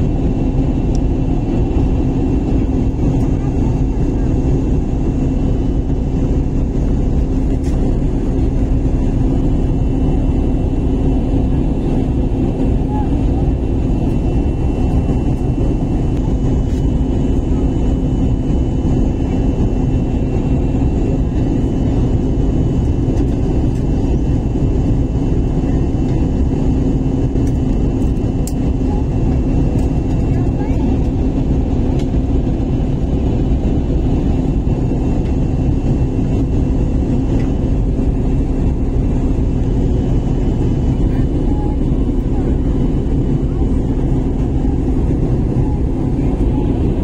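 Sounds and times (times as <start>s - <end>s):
airliner engines and rushing air: 0.0s - 47.0s
steady cabin hum: 0.0s - 47.0s.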